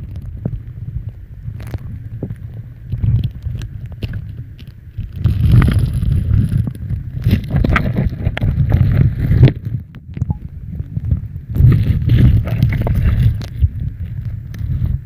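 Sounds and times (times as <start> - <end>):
underwater rumble: 0.0 - 15.0.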